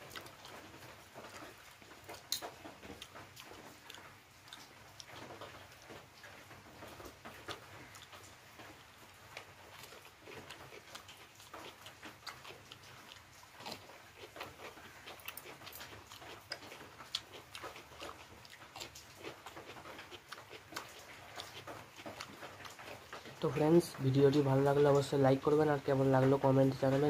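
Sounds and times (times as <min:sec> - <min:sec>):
person chewing: 0:00.0 - 0:26.0.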